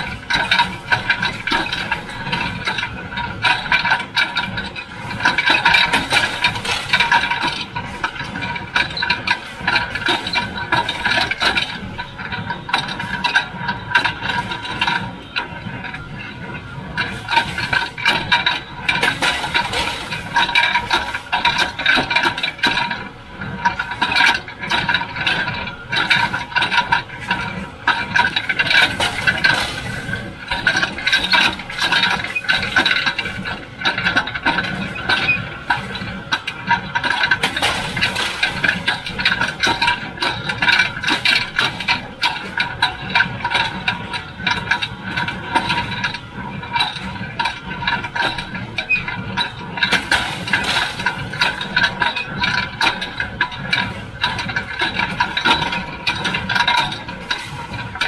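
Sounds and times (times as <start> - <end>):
baler rattling and clanking: 0.0 - 58.0
steady machine whine: 0.0 - 58.0.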